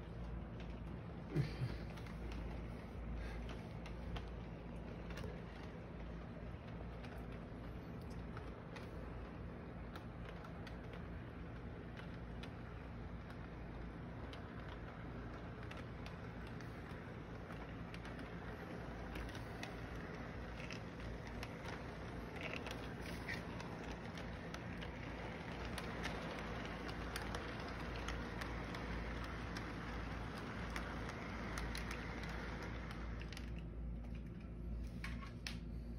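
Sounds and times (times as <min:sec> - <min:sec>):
model train rumbling: 0:00.0 - 0:33.9.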